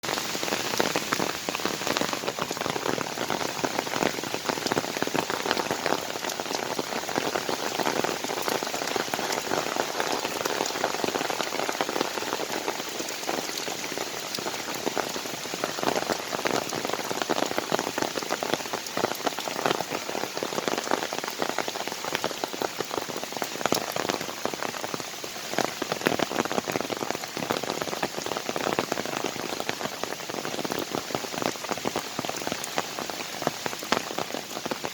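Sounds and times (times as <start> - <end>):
rain falling in a forest: 0.0 - 34.9.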